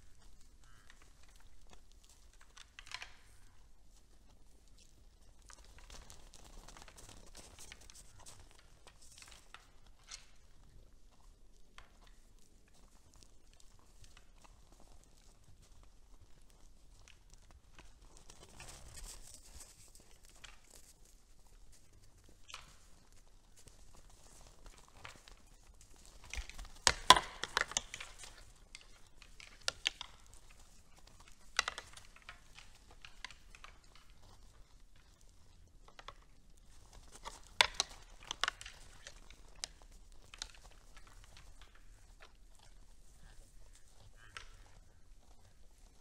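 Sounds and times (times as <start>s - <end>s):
deer crunching hay and snow: 0.0s - 46.0s.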